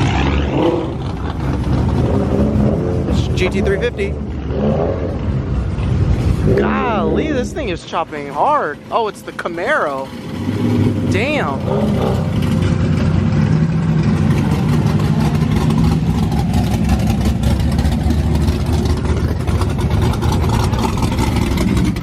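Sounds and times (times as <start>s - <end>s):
car engine idling with choppy lope: 0.0s - 22.0s.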